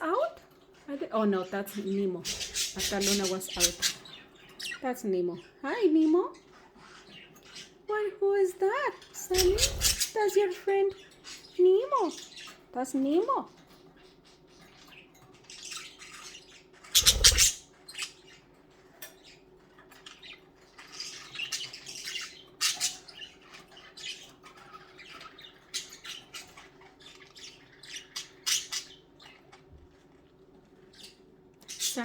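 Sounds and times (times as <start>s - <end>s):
budgies chirping and squawking: 0.0s - 32.0s.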